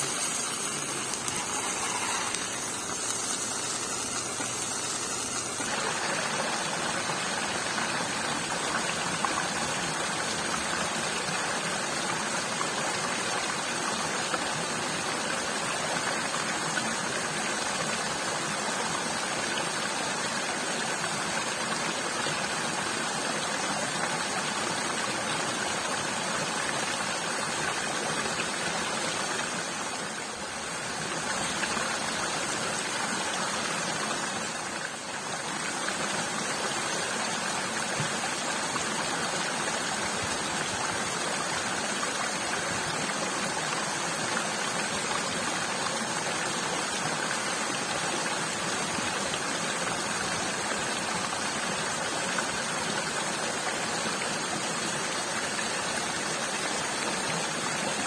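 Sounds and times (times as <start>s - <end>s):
stream rushing: 0.0s - 58.0s.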